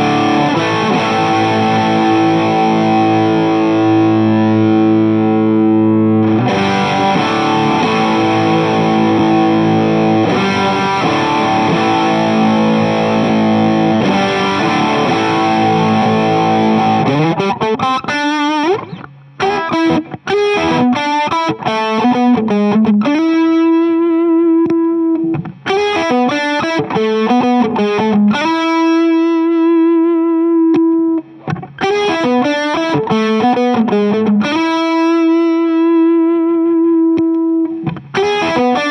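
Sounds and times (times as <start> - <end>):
overdriven electric guitar: 0.0 - 38.9.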